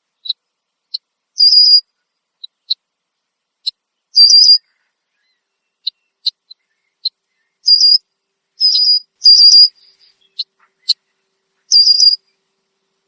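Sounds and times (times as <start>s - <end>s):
blackbird alarm calls: 0.2s - 2.8s, 3.6s - 12.4s.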